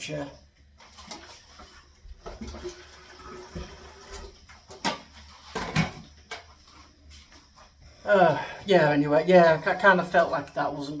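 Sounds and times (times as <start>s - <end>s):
faint rustling and handling noise: 0.2s - 11.0s.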